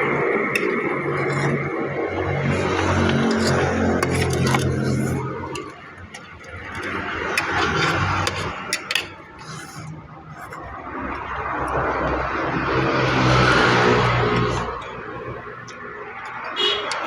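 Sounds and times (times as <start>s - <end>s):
passing traffic rushing: 0.0s - 17.0s.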